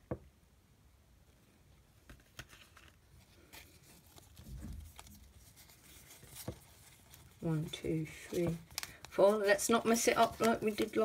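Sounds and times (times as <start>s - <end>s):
cards clicking and rustling: 2.0s - 11.0s.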